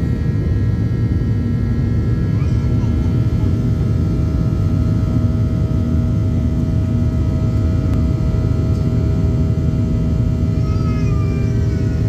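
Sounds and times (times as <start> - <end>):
jet engine cabin rumble: 0.0 - 12.0
steady cabin hum: 0.0 - 12.0.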